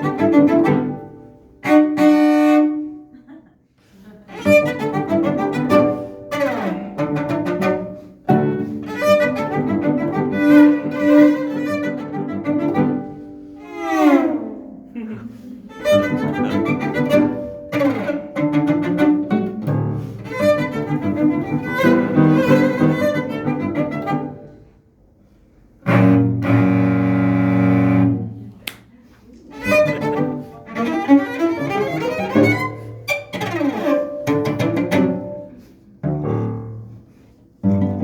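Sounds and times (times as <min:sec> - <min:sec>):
bowed cello: 0:00.0 - 0:03.3, 0:04.2 - 0:38.0.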